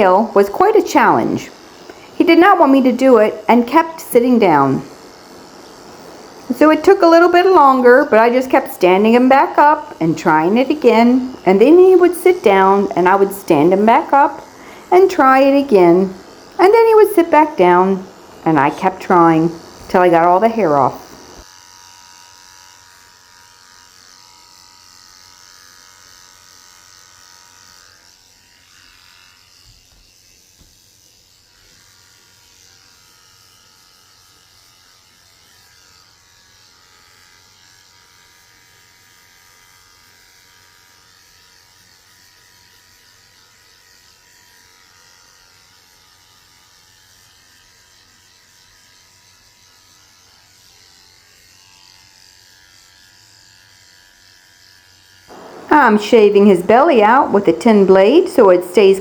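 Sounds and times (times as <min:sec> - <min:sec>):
electric clippers running: 0:00.0 - 0:59.0.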